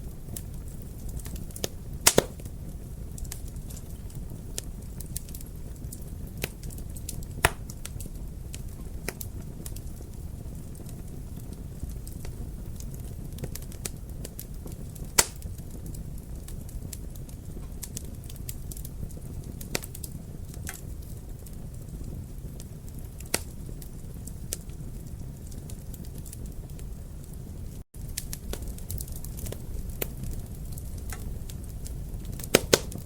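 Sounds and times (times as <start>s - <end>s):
fire popping: 0.0s - 33.0s
wood fire crackling: 0.0s - 33.0s.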